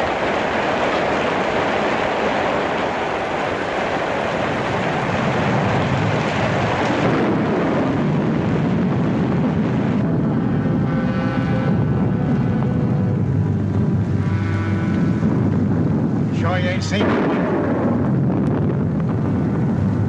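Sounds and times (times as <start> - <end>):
heavy rain pouring: 0.0 - 20.0
low thunder rumbling: 0.0 - 20.0.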